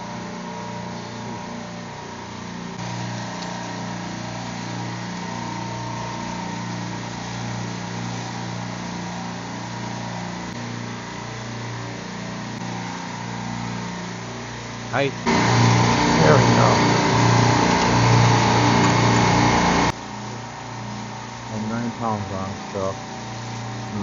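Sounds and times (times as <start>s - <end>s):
refrigeration compressors humming: 0.0s - 24.0s.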